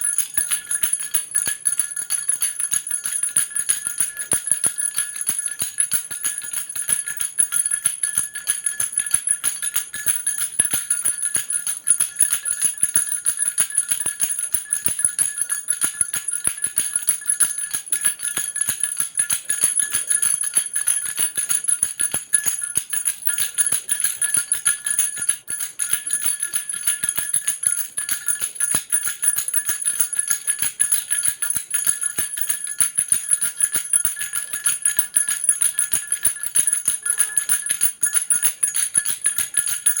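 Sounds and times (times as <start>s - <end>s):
baby rattle bells jingling: 0.0s - 40.0s.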